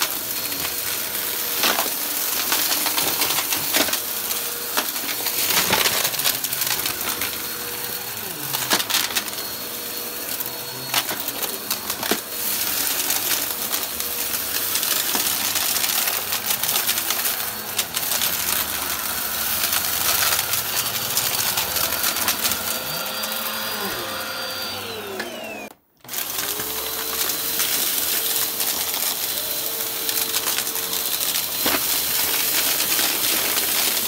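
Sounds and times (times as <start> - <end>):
vacuum cleaner running over carpet: 0.0 - 34.0.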